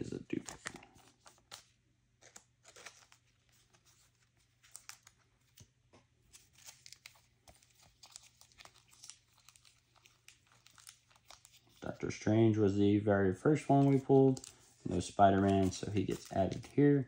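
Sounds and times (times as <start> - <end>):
trading cards rustling and clicking: 0.0 - 12.8, 13.4 - 17.0.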